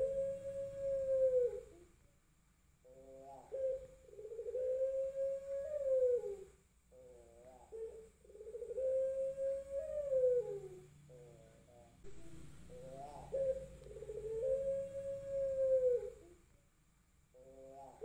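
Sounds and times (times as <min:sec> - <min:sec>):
dove cooing: 0:00.0 - 0:02.0, 0:02.8 - 0:16.5, 0:17.3 - 0:18.0.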